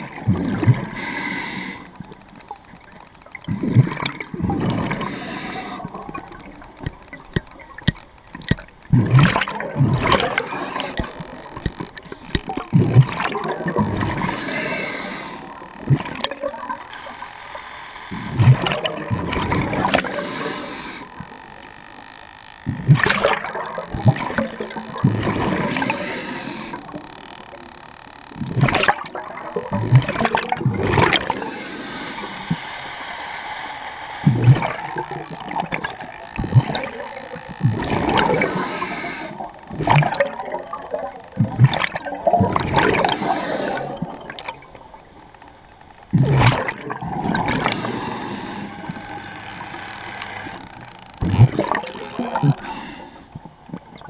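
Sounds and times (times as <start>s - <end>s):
scuba bubbles gurgling: 0.0s - 22.0s, 22.6s - 32.6s, 34.2s - 54.0s.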